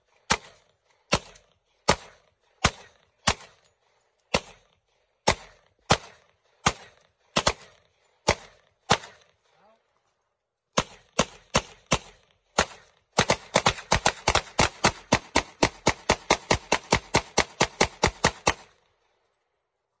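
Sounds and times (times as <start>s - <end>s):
pistol shots: 0.2s - 3.6s, 4.3s - 9.4s, 10.7s - 18.8s
rapid pistol fire: 0.3s - 3.6s, 4.3s - 9.3s, 10.8s - 18.8s.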